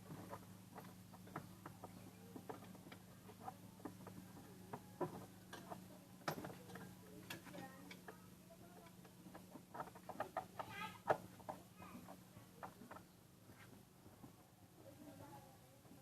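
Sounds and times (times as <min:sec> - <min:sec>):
faint low hum: 0:00.0 - 0:16.0
hand tools clicking and tapping: 0:00.2 - 0:13.1.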